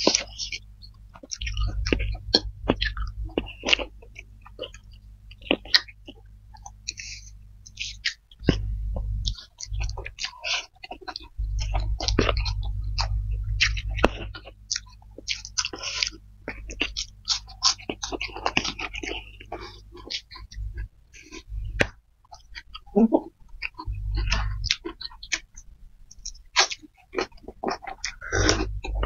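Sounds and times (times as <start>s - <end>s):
chewing and lip-smacking: 0.0s - 29.0s
low hum: 0.0s - 29.0s.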